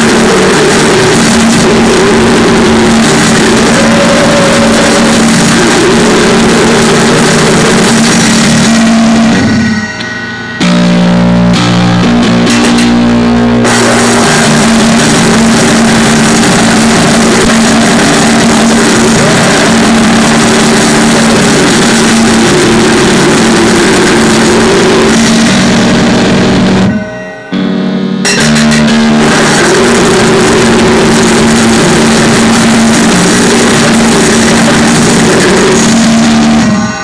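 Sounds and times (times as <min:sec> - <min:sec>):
distorted guitar noise music: 0:00.0 - 0:37.0.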